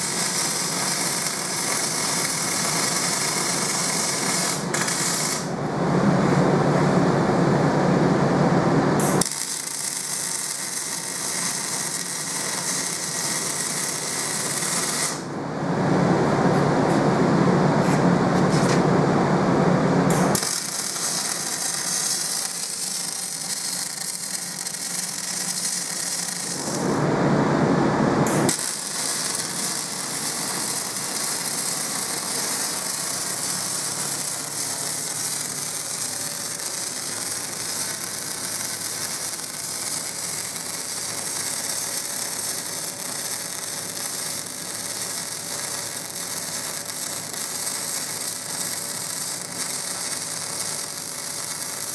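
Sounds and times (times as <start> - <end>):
welding arc crackling and hissing: 0.0 - 5.6, 9.0 - 15.4, 20.1 - 27.0, 28.3 - 51.9.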